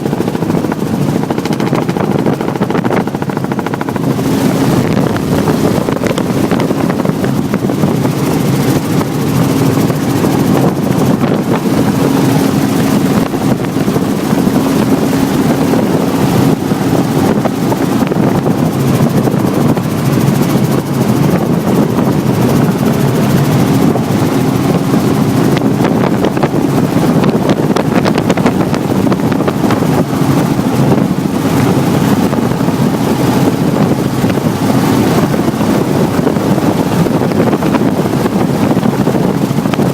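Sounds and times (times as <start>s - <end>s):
helicopter engine and rotor: 0.0s - 39.9s
wind buffeting microphone: 0.0s - 39.9s.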